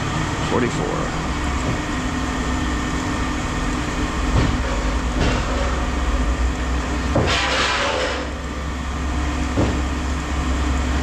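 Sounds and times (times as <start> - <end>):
machinery rumbling: 0.0 - 11.0.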